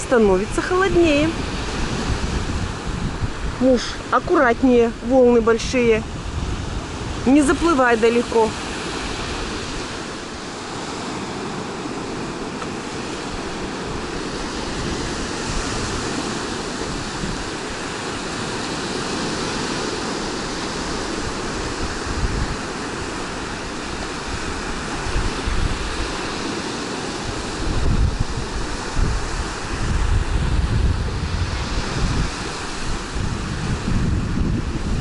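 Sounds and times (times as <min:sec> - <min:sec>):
waves breaking on beach: 0:00.0 - 0:35.0
wind gusts on microphone: 0:00.0 - 0:35.0.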